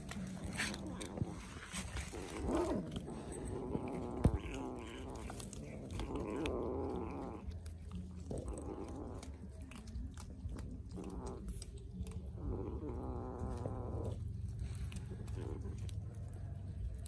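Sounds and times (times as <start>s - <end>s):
kitten eating: 0.0s - 17.0s.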